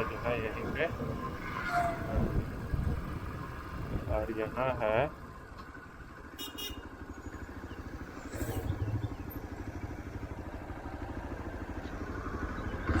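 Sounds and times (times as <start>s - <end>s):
engine idling: 2.2s - 13.0s.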